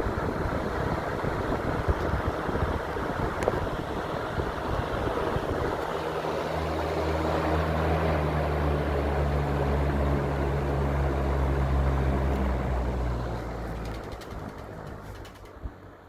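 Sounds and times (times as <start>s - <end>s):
electric fan running: 0.0s - 15.7s.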